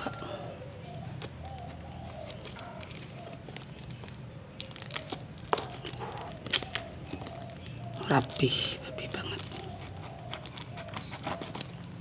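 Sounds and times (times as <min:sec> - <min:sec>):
package wrapping crinkling and tearing: 0:00.0 - 0:08.4, 0:09.2 - 0:12.0.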